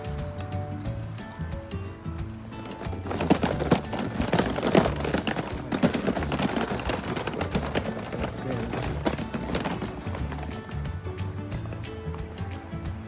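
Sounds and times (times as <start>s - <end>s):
footsteps on stone: 0.0s - 13.0s.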